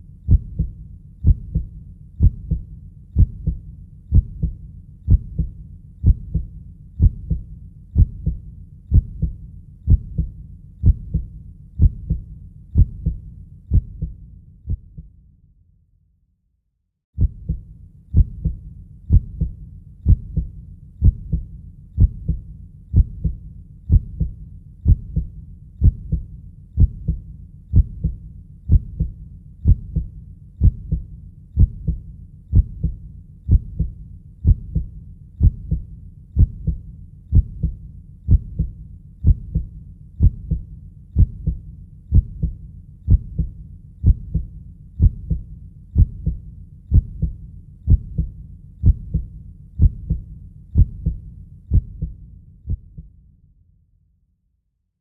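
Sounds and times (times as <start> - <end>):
slow heartbeat: 0.2 - 15.1, 17.2 - 53.1.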